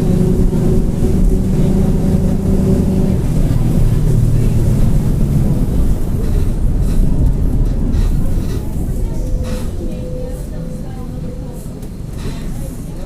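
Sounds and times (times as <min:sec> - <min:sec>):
rear differential growling: 0:00.0 - 0:12.9
bus diesel engine droning: 0:00.0 - 0:13.0.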